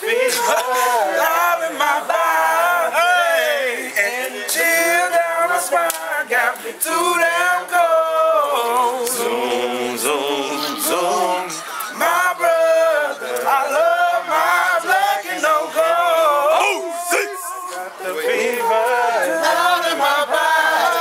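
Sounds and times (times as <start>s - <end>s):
men singing and chanting: 0.0s - 21.0s.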